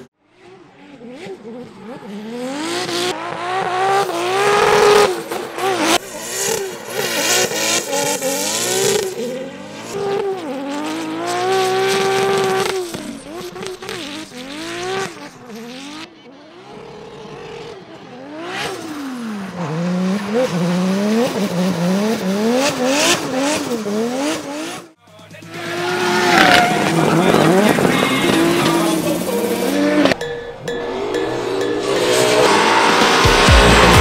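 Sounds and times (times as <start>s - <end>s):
car engines revving hard: 0.0s - 34.0s
spinning tyres hissing: 2.5s - 24.9s, 25.6s - 34.0s.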